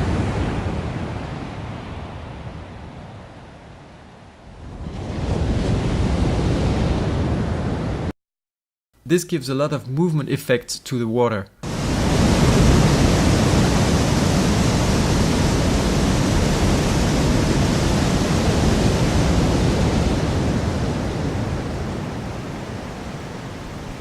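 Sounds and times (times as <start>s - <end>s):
churning ocean waves: 0.0s - 8.1s, 11.6s - 24.0s.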